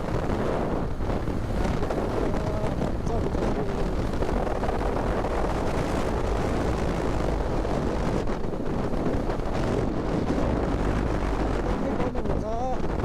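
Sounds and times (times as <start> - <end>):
motorcycle engine and road noise: 0.0 - 13.0
wind buffeting microphone: 0.0 - 13.0.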